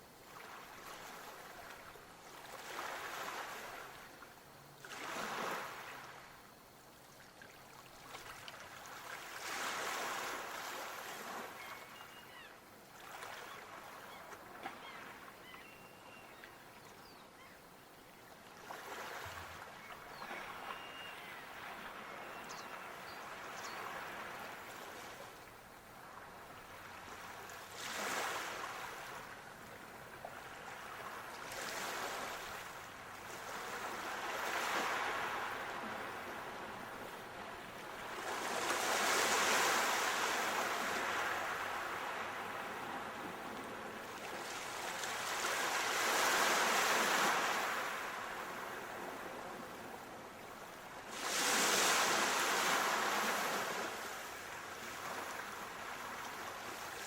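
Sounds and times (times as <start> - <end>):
sea waves breaking on shore: 0.0 - 6.4, 7.3 - 16.1, 18.5 - 57.0.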